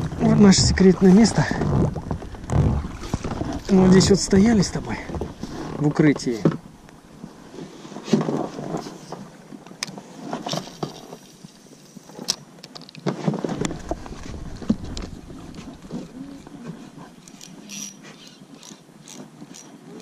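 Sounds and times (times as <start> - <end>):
rustle of water: 0.0 - 20.0.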